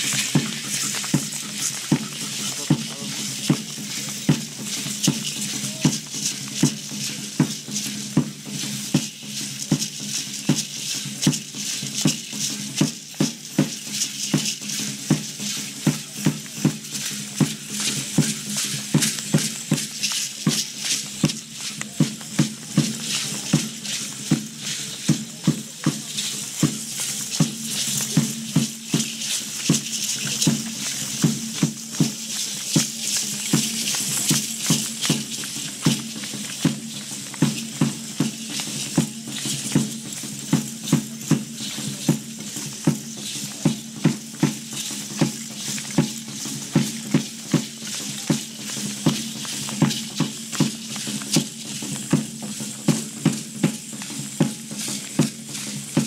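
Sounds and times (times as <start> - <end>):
rattles shaking: 0.0 - 56.0
steady drumbeat: 0.0 - 56.0.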